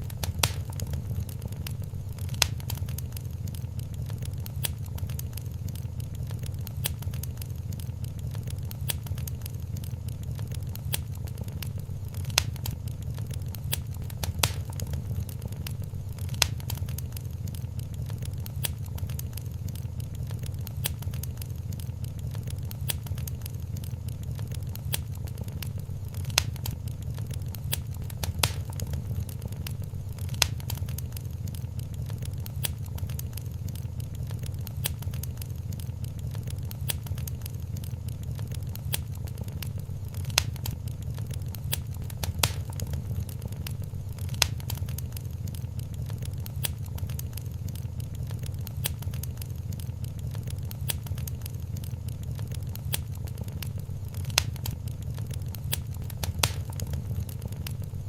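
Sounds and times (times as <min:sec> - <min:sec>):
fire flames rumbling: 0:00.0 - 0:58.0
wood fire pops and snaps: 0:00.0 - 0:58.0.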